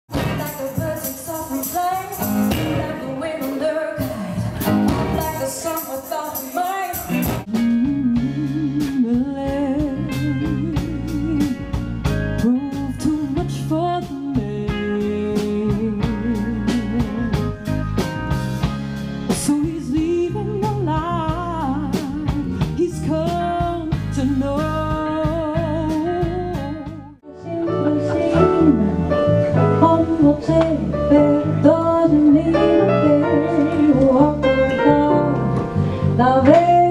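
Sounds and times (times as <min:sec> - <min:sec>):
woman singing: 0:00.1 - 0:11.8, 0:12.4 - 0:17.6, 0:19.3 - 0:36.9
live band with horns: 0:00.1 - 0:36.8.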